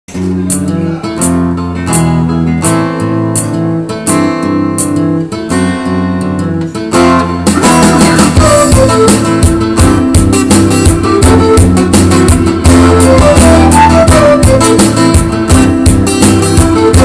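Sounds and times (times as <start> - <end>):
acoustic guitar strumming chords: 0.1 - 17.0.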